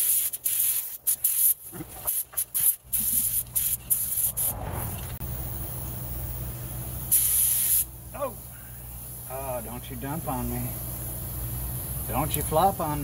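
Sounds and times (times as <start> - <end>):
spray gun hissing bursts: 0.0 - 4.6, 7.0 - 13.0.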